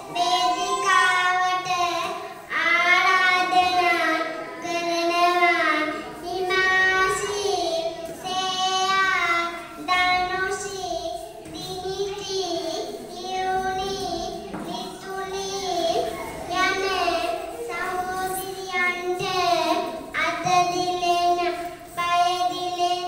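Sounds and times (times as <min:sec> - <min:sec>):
girl singing: 0:00.0 - 0:23.0.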